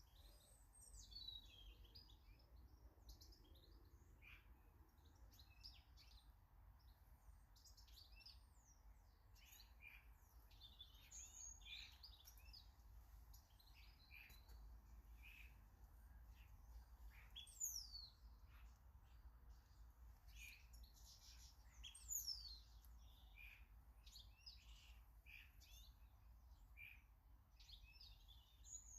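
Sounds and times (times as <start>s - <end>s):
small birds calling and chirping: 0.0s - 28.9s.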